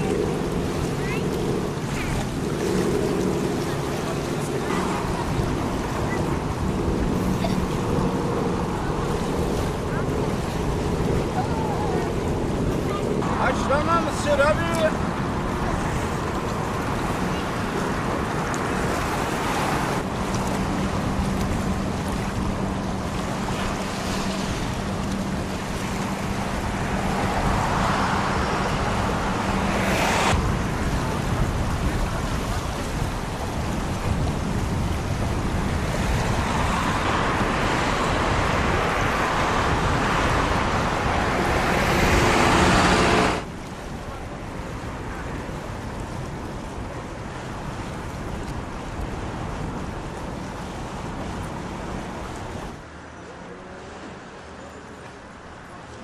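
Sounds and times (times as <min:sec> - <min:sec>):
wind buffeting microphone: 0:00.0 - 0:52.9
low engine hum: 0:00.0 - 0:56.0.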